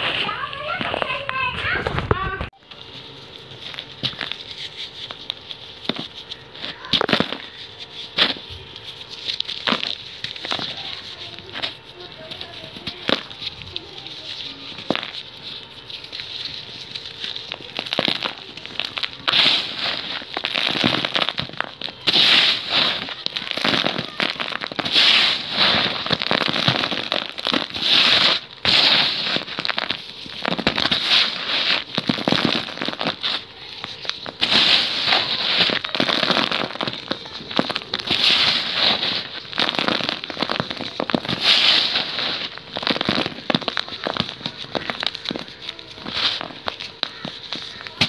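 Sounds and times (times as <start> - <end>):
dry clay balls crumbling by hand: 0.0 - 48.0.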